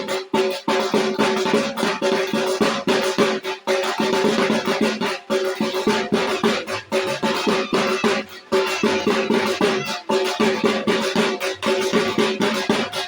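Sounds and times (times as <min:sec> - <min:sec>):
fast steady drumming: 0:00.0 - 0:13.0.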